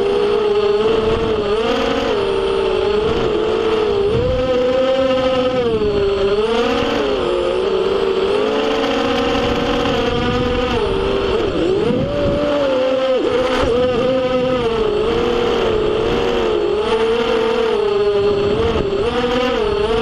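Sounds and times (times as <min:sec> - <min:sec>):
quadcopter propellers whining: 0:00.0 - 0:20.0.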